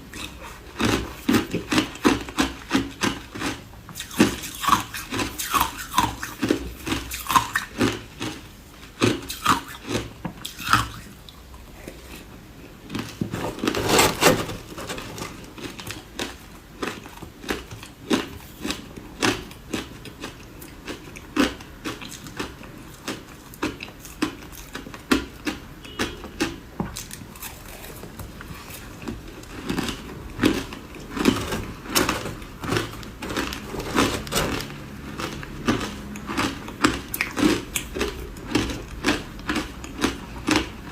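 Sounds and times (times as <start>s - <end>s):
person chewing ice: 0.0s - 40.9s.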